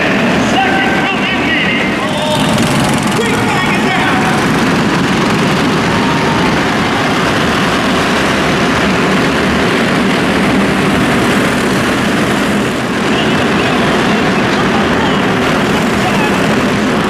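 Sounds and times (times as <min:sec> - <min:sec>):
many race car engines: 0:00.0 - 0:17.0.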